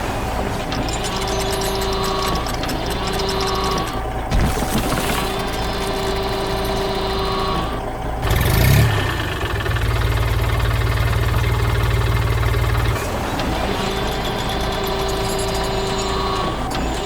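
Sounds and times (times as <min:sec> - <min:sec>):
farm machinery engine running: 0:00.0 - 0:17.0.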